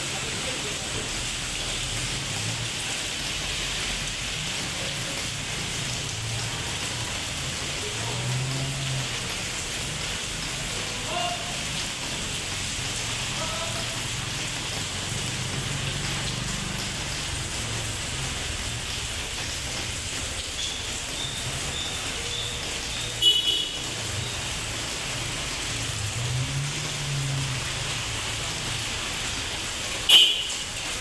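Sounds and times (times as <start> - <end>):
rain splashing on hard surfaces: 0.0 - 31.0.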